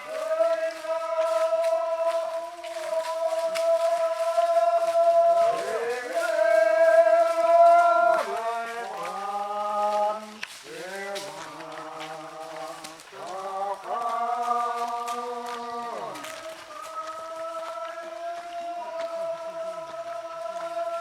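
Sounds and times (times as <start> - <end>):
men singing chant-like folk song: 0.0 - 21.0.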